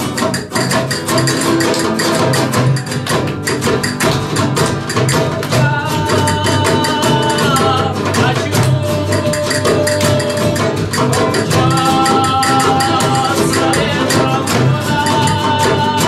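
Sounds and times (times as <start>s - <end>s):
acoustic guitars strumming: 0.0s - 16.0s
hand drum percussion: 0.0s - 16.0s.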